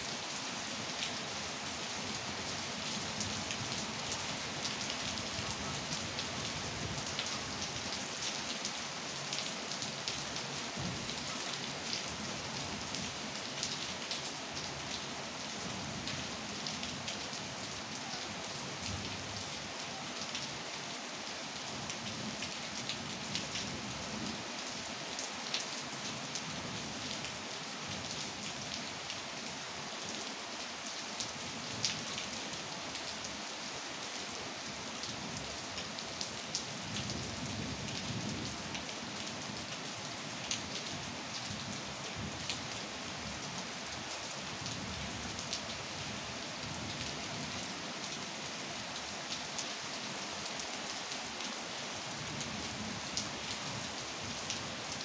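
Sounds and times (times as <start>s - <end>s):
steady rain falling: 0.0s - 55.0s
raindrops pattering on surfaces: 0.1s - 55.0s.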